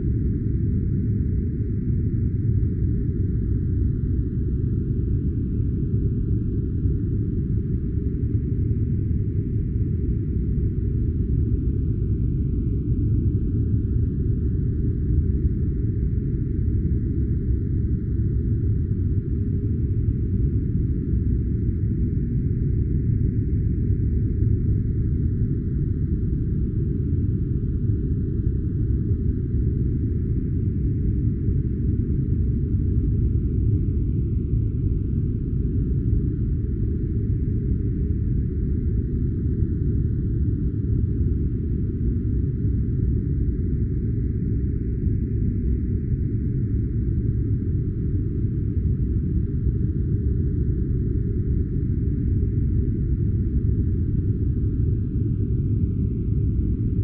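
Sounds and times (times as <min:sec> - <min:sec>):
steady deep white noise: 0:00.0 - 0:57.0.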